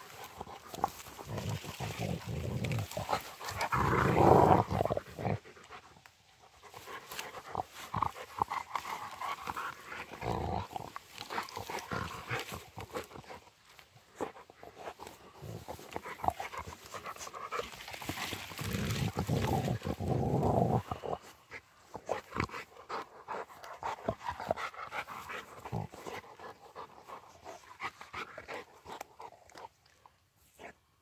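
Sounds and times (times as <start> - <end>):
twigs clicking and cracking: 0.0 - 30.2
grass rustling: 0.0 - 30.8
dogs panting and sniffing: 0.0 - 31.0.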